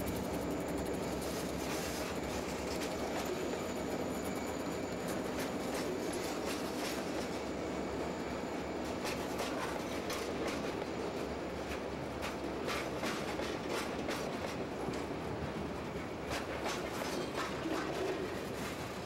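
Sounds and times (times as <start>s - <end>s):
steel wheels rumbling on rail: 0.0s - 19.0s
train cars clicking and clanking: 0.1s - 19.0s.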